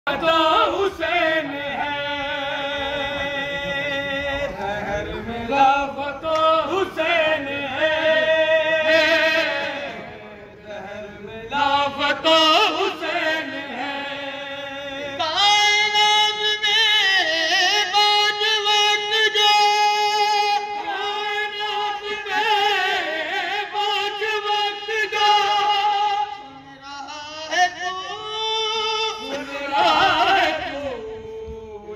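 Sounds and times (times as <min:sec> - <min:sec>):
men singing a chant: 0:00.1 - 0:26.4, 0:27.0 - 0:31.9.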